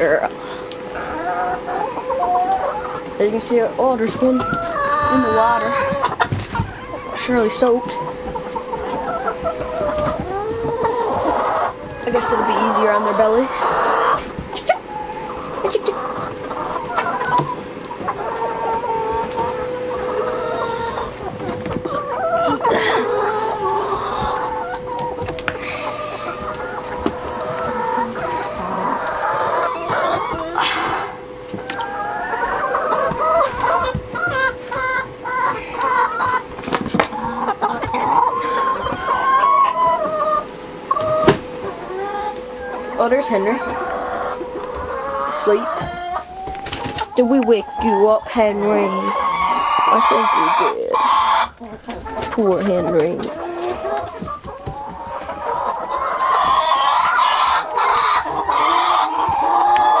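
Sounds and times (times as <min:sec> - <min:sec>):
hens clucking: 0:00.0 - 1:00.0.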